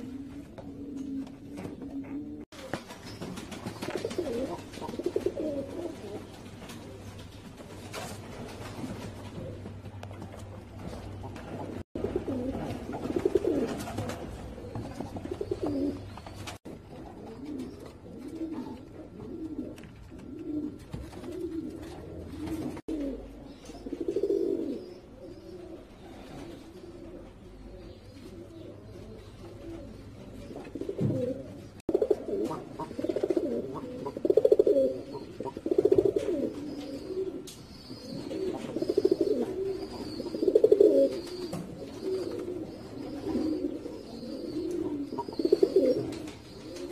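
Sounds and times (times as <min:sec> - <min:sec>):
pigeons cooing: 0:00.0 - 0:02.9, 0:03.6 - 0:07.2, 0:08.4 - 0:46.9.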